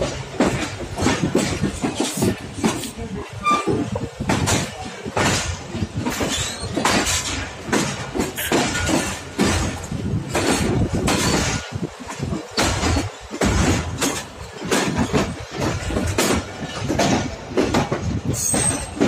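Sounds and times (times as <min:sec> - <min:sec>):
rushing track noise: 0:00.0 - 0:19.0
train wheels clattering over joints: 0:00.0 - 0:19.0.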